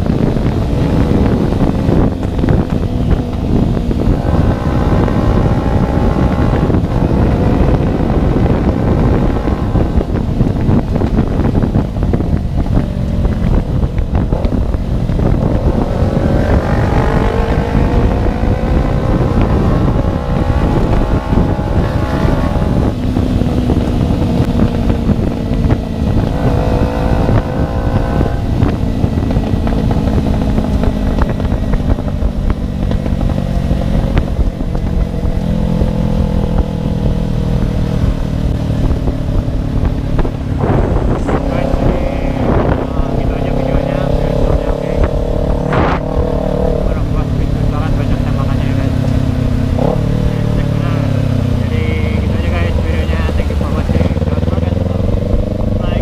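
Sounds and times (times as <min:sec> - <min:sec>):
motorcycle engine revving: 0:00.0 - 0:56.0
wind noise on microphone: 0:00.0 - 0:56.0.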